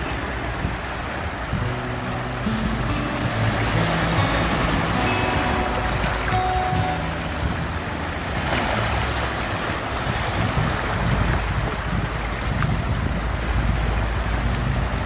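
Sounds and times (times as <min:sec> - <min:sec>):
surf washing over rock: 0:00.0 - 0:15.0.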